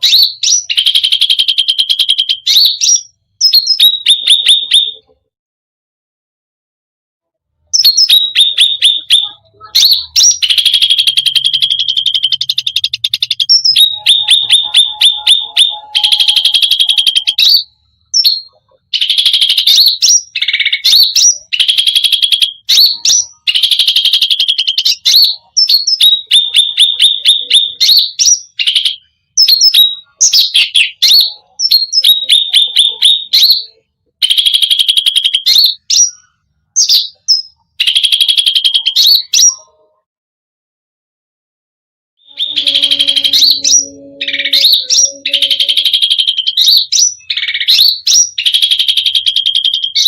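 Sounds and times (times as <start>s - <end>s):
songbird singing with rapid trills: 0.0s - 5.2s, 7.7s - 40.0s, 42.2s - 50.0s.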